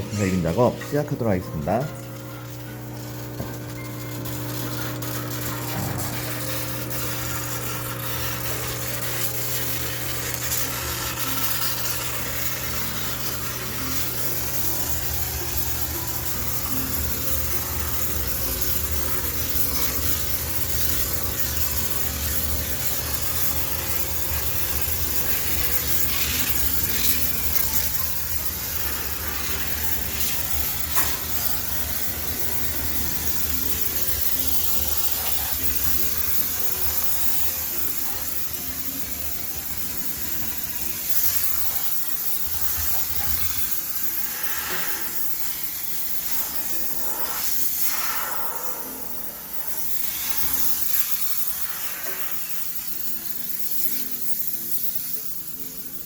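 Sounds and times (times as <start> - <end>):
steam jet hissing: 0.0 - 56.0.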